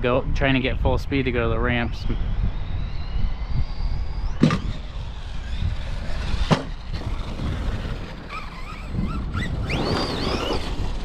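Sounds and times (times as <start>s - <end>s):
electric motor whining: 2.0s - 11.0s.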